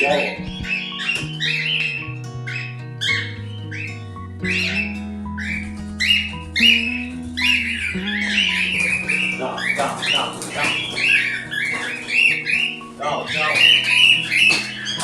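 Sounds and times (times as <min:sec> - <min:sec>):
background music with guitar: 0:00.0 - 0:15.0
parrots squawking: 0:00.0 - 0:15.0.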